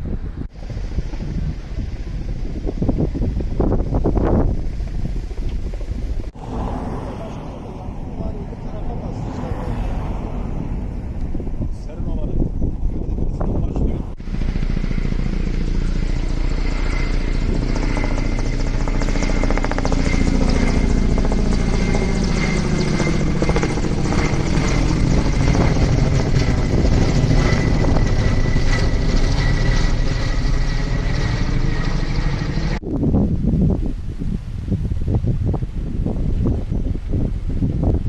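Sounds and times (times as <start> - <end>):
helicopter rotor chop: 0.5 - 32.8.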